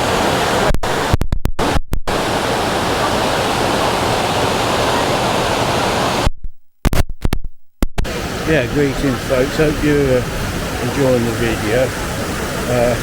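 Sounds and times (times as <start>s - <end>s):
waterfall rushing into pool: 0.0s - 6.3s, 8.1s - 13.0s.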